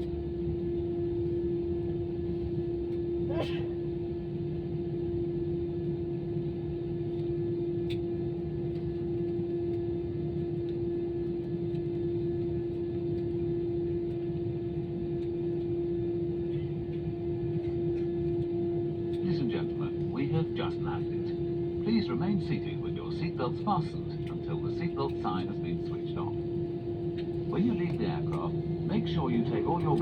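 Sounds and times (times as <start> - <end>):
airliner cabin rumble and hum: 0.0 - 30.0.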